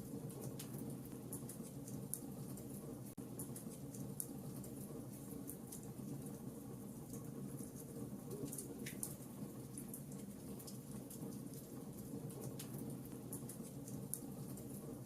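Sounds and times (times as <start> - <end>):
fire crackling and popping: 0.1 - 15.0.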